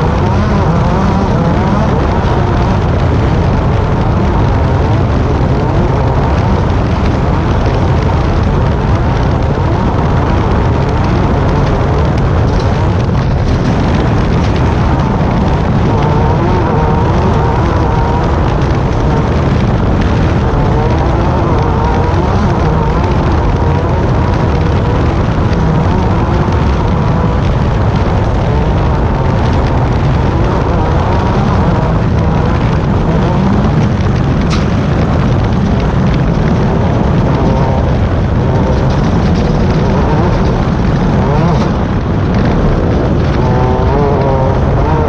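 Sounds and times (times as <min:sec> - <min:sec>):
race buggy engine running hard: 0:00.0 - 0:45.0.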